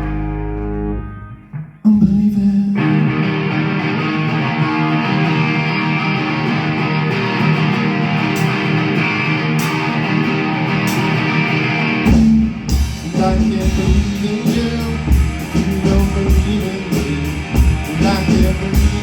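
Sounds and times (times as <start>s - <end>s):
rock band playing: 0.0s - 1.7s, 2.8s - 19.0s.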